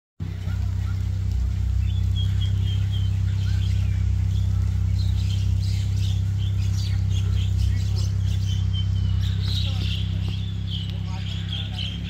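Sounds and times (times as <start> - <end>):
boat engine droning: 0.2 - 12.0
flock of birds chirping: 0.2 - 12.0.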